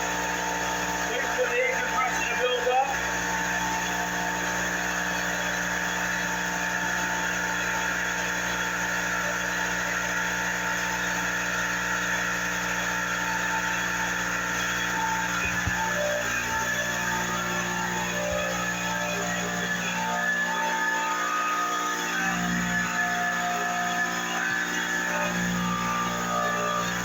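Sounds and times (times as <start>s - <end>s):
air compressor running: 0.0s - 27.0s.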